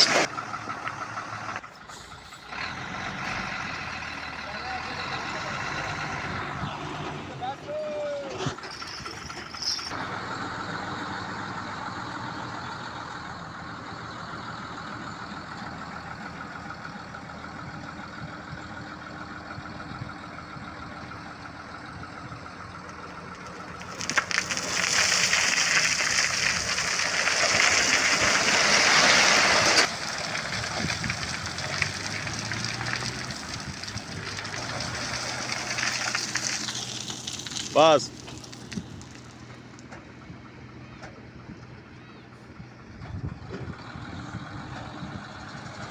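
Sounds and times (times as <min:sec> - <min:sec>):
diesel construction machinery: 0:00.0 - 0:45.9.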